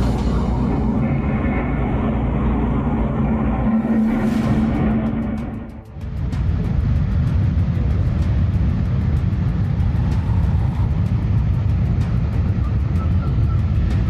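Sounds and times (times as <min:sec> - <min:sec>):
rocket engine rumbling: 0:00.0 - 0:13.9.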